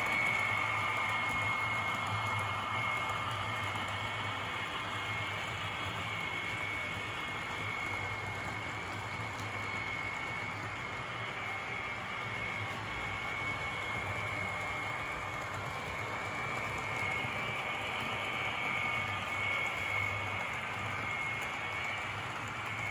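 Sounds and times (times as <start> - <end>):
model train motor whine: 0.0 - 22.9.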